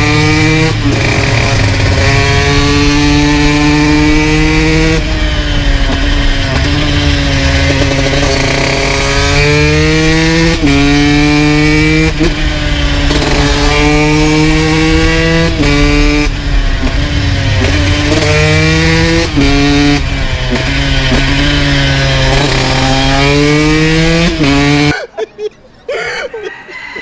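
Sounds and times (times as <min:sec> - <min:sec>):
motorcycle engine shifting gears: 0:00.0 - 0:25.0.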